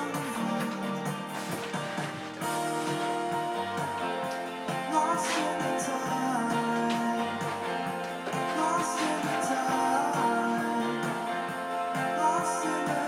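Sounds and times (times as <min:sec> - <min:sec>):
guitar music with singing: 0:00.0 - 0:13.0.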